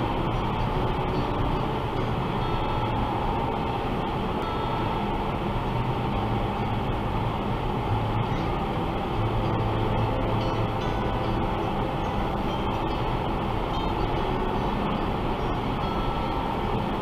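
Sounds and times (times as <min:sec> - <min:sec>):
faint steady whine: 0:00.0 - 0:17.0
vehicle road and engine noise: 0:00.0 - 0:17.0.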